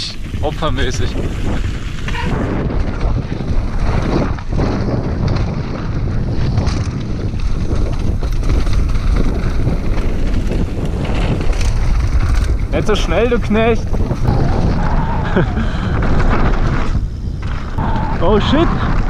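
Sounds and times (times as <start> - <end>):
wind buffeting microphone: 0.0 - 19.0
tyres rolling over dirt: 0.2 - 19.0.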